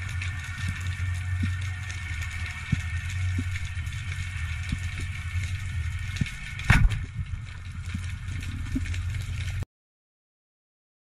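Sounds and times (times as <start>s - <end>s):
underwater rumble: 0.0s - 9.6s.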